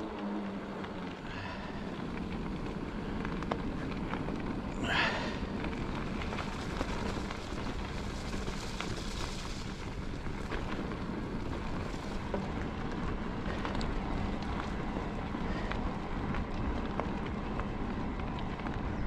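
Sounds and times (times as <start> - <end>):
small clicks and ticks: 0.0 - 19.0
tyre rumble: 0.0 - 19.0.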